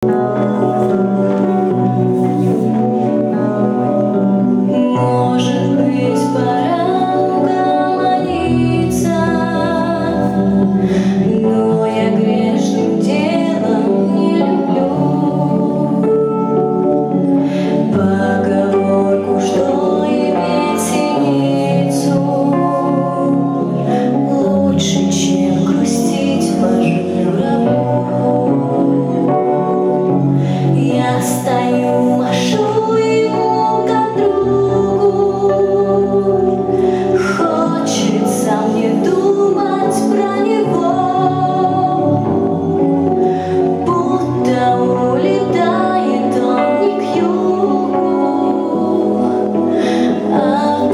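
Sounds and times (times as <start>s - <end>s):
vocal ensemble singing: 0.0s - 50.9s.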